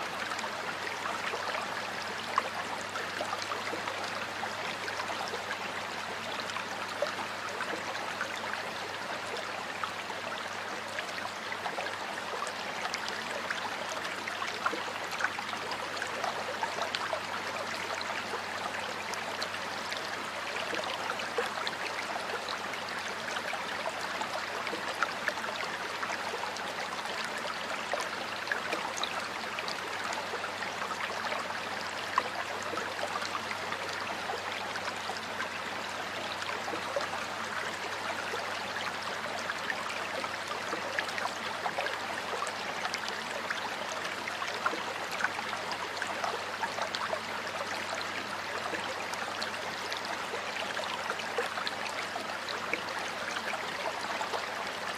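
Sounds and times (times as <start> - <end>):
water flowing over rocks: 0.0 - 54.9.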